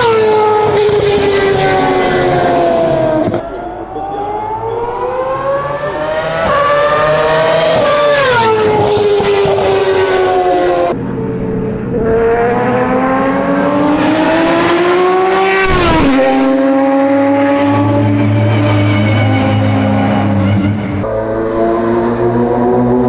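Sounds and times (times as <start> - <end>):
racing car engine: 0.0 - 23.0.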